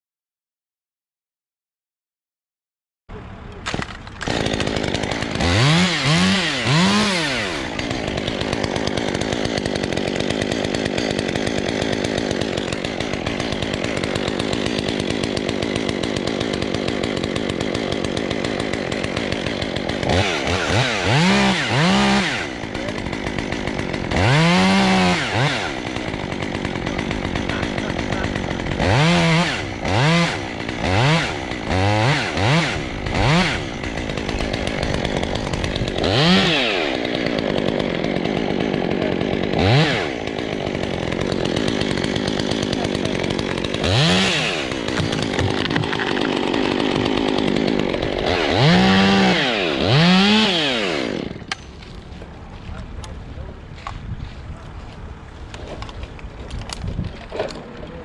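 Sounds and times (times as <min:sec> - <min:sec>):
chainsaw revving: 0:03.6 - 0:54.0.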